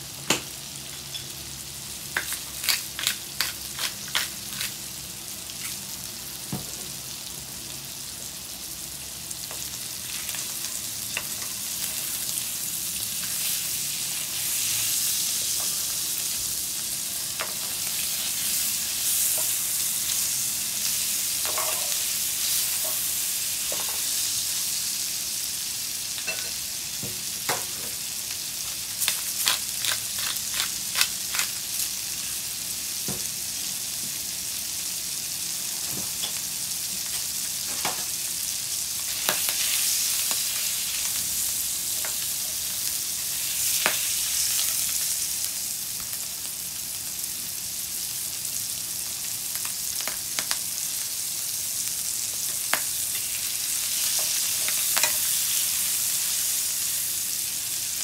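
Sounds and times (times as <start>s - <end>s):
fish sizzling in a pan: 0.0s - 58.0s.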